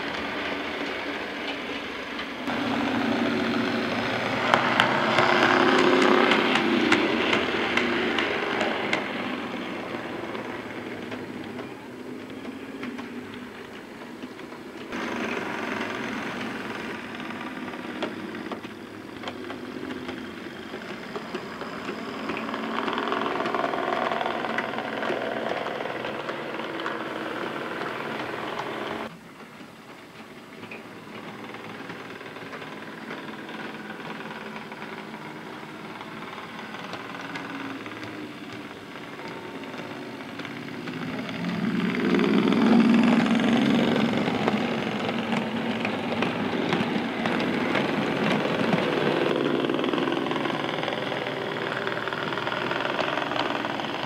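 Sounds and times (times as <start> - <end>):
model train motor whirring: 0.0 - 54.0
wheels clattering on rails: 0.0 - 54.0.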